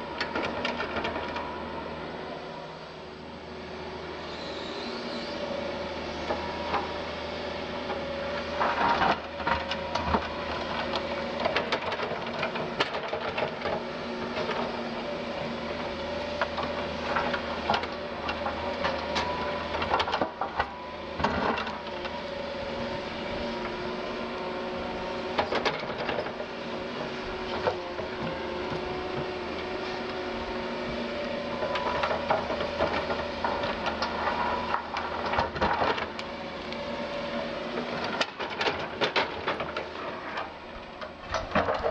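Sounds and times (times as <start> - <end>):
excavator engine and hydraulics: 0.0 - 41.9.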